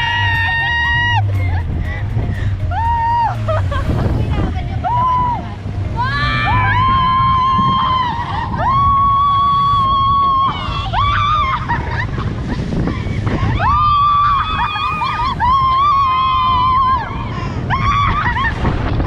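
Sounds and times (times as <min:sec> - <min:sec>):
people screaming: 0:00.0 - 0:01.6, 0:02.6 - 0:03.7, 0:04.8 - 0:19.0
boat engine rumble: 0:00.0 - 0:19.0
water: 0:00.0 - 0:19.0.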